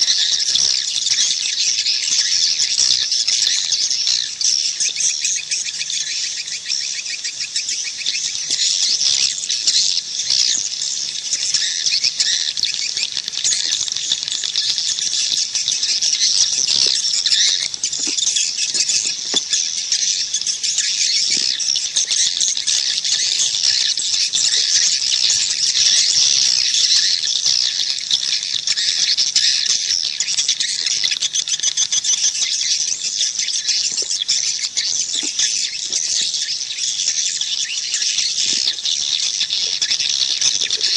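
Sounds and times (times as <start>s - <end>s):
swiftlets twittering and chirping: 0.0s - 40.9s.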